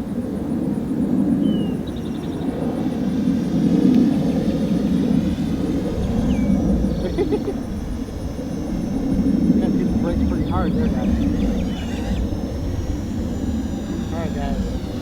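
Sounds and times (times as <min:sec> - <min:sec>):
drone motors whining: 0:01.2 - 0:15.0.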